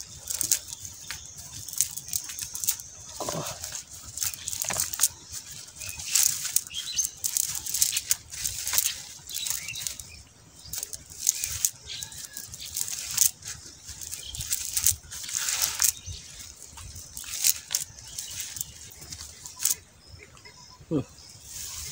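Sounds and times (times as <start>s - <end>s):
fish flapping: 0.0s - 10.1s, 10.7s - 19.8s
net mesh rustling and crackling: 0.0s - 19.8s.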